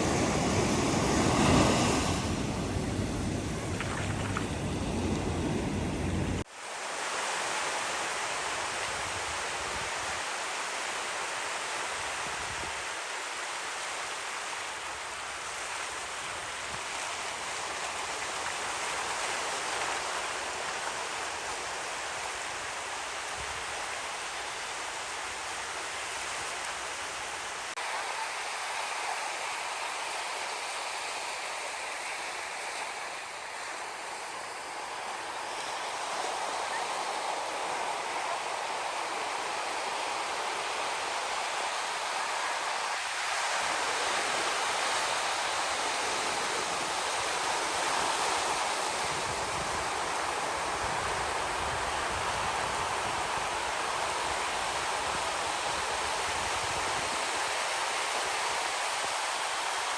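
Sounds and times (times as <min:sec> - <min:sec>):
ocean surf on a beach: 0:00.0 - 0:59.9.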